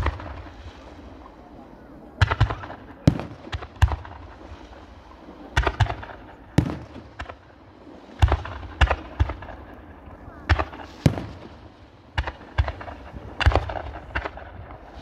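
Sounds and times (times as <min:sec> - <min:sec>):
fireworks sharp bangs: 0:00.0 - 0:01.3, 0:02.1 - 0:15.0.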